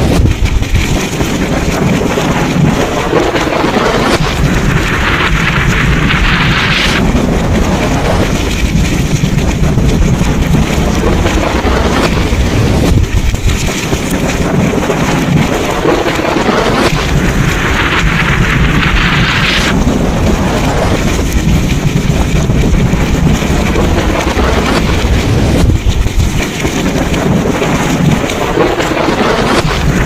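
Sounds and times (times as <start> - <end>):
heavy rain: 0.0 - 30.0
rumbling thunder: 0.0 - 30.0
wind: 0.0 - 30.0.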